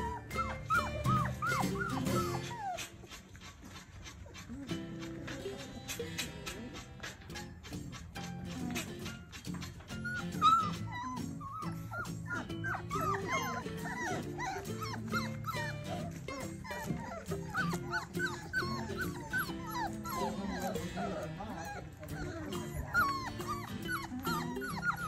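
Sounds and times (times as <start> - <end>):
puppies whining and yipping: 0.0 - 25.0
background music: 4.6 - 25.0.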